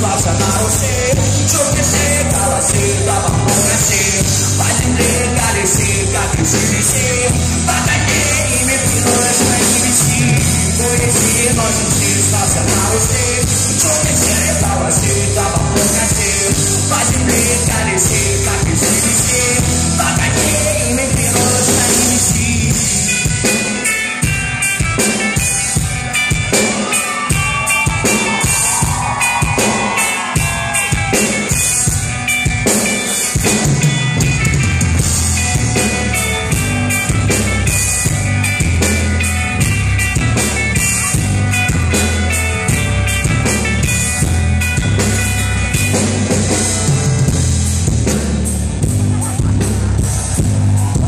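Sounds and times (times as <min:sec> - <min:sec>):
heavy bass and kick drum: 0:00.0 - 0:23.5, 0:33.4 - 0:51.0
rock band playing: 0:00.0 - 0:51.0.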